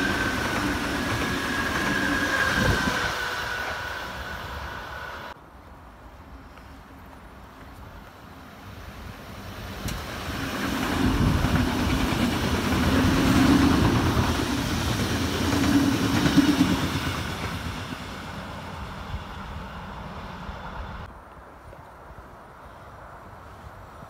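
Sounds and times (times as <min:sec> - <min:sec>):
electric train passing: 0:00.0 - 0:21.1.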